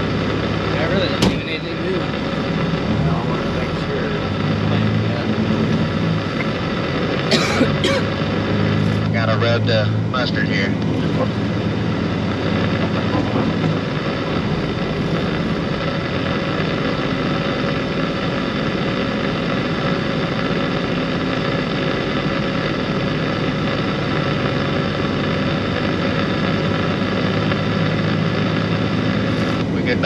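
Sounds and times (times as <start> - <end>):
road and wind noise: 0.0 - 30.0
vehicle engine hum: 0.0 - 30.0.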